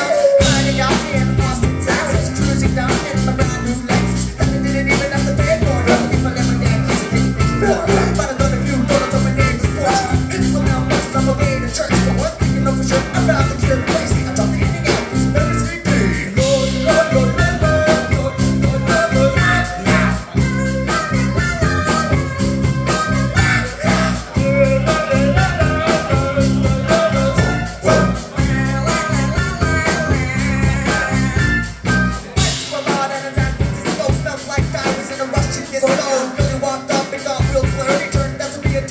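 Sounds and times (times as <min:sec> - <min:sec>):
bass guitar: 0:00.0 - 0:38.9
drums with steady beat: 0:00.0 - 0:38.9
lead vocal singing: 0:00.0 - 0:38.9.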